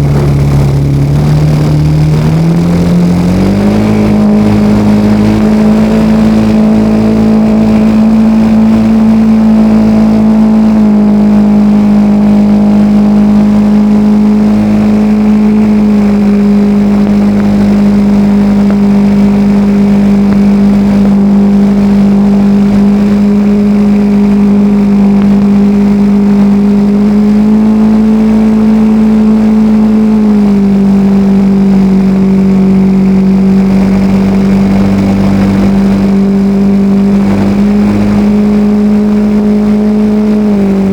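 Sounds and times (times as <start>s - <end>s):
model plane engine and propeller: 0.0s - 40.9s.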